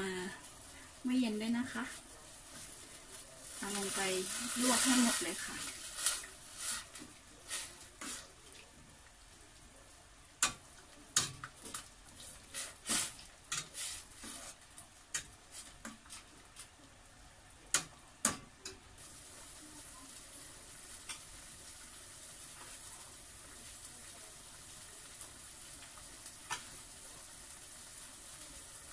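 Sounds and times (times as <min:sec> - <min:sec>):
faint steady hiss: 0:00.0 - 0:28.9.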